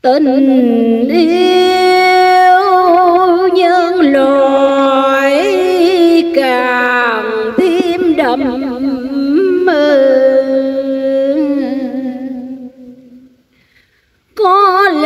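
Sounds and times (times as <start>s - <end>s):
woman chanting: 0.0s - 13.4s, 14.4s - 15.0s.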